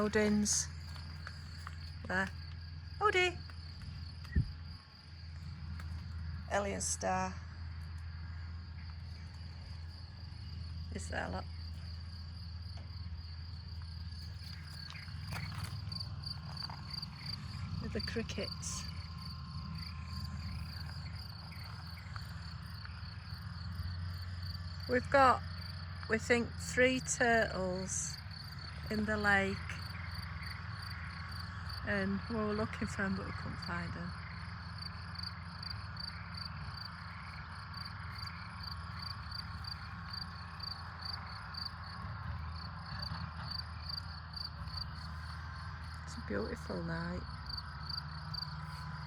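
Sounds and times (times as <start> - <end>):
crickets chirping: 0.0 - 49.0
low steady hum: 0.0 - 49.0
low steady rumble: 0.0 - 49.0.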